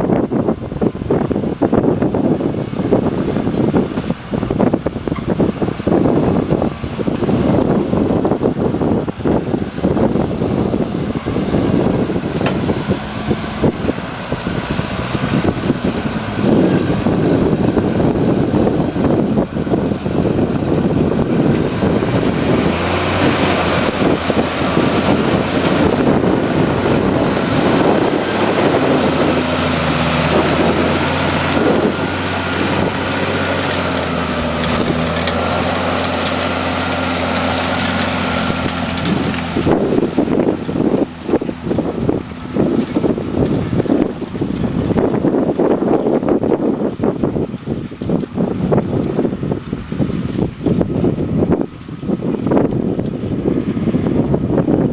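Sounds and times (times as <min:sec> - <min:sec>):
tractor diesel engine running: 0:00.0 - 0:54.9
wind buffeting microphone: 0:00.0 - 0:54.9.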